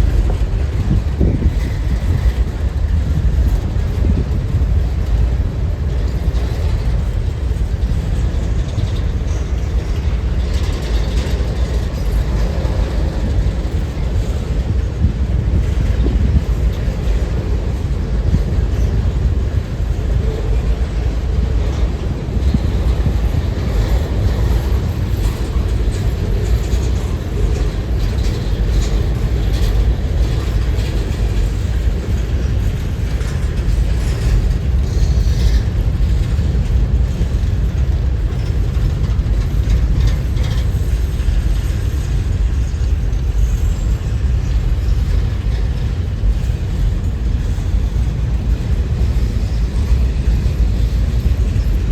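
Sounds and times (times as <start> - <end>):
train rolling past: 0.0 - 51.9
wheels clicking and rattling: 0.0 - 51.9
wind buffeting microphone: 0.0 - 51.9.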